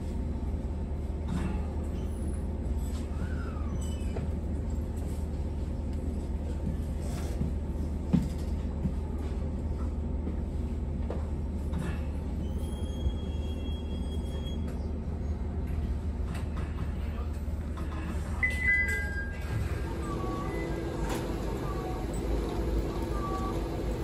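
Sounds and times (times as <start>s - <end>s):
train interior rumble: 0.0s - 24.0s.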